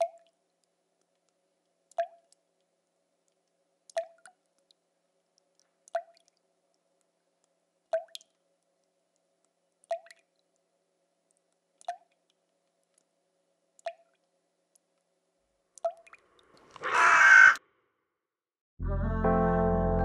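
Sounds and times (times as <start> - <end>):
faint steady hum: 0.0 - 16.8.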